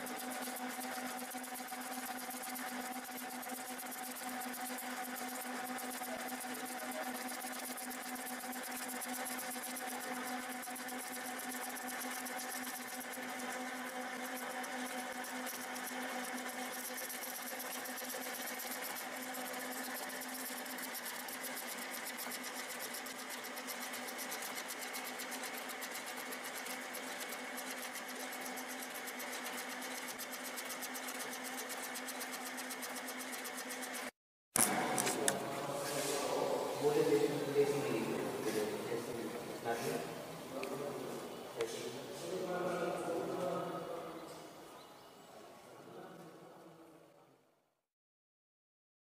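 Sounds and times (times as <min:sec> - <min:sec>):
lathe humming with rapid rattle: 0:00.0 - 0:40.7.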